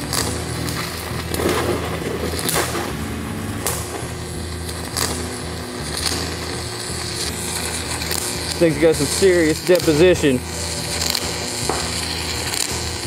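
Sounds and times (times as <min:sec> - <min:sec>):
sharp pops of welding arc: 0:00.0 - 0:13.0
welding arc crackling sizzle: 0:00.0 - 0:13.0.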